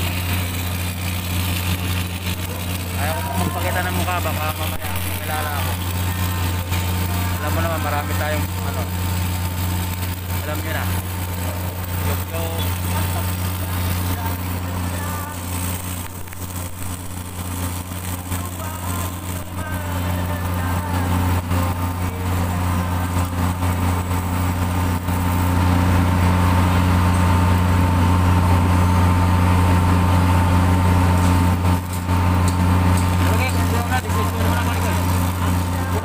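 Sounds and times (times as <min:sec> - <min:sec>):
low engine drone: 0:00.0 - 0:36.0.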